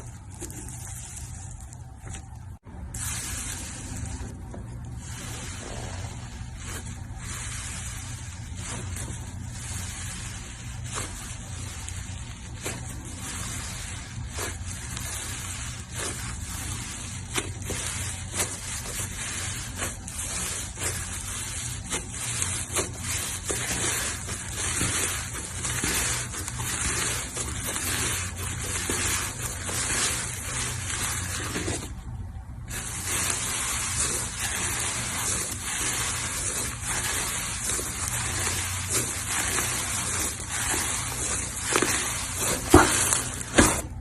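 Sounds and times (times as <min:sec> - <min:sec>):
slime squishing: 0:00.0 - 0:44.0.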